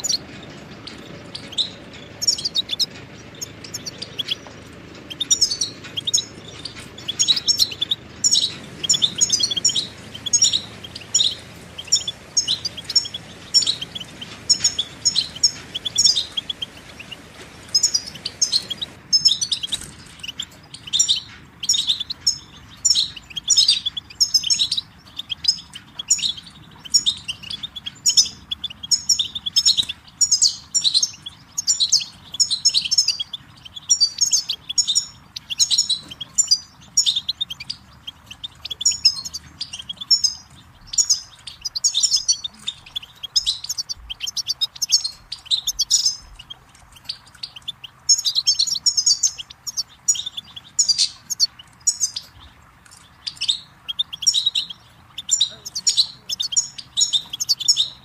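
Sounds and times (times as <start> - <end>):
bird twittering song: 0.0 - 58.0.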